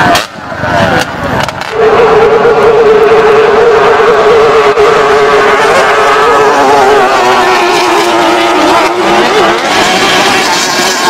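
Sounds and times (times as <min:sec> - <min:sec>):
boat engine at high revs: 0:00.8 - 0:11.0.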